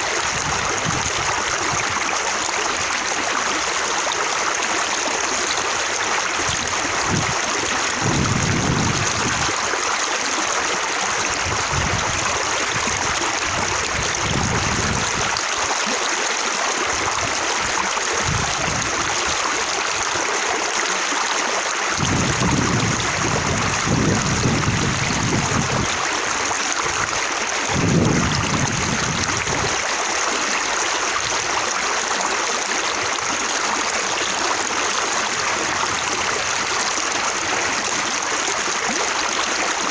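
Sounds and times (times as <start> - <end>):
water flowing and splashing: 0.0 - 39.9
water gurgling: 0.0 - 39.9.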